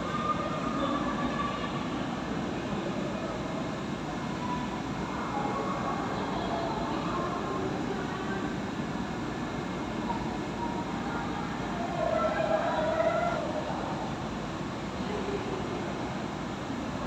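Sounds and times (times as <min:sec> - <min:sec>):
distant voices: 0:00.0 - 0:17.0
low rumbling hall noise: 0:00.0 - 0:17.0.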